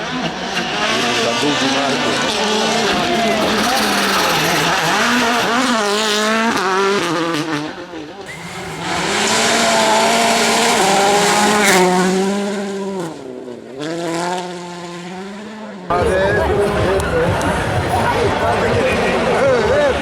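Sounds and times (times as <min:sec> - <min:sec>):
rally car engine running hard: 0:00.0 - 0:20.0.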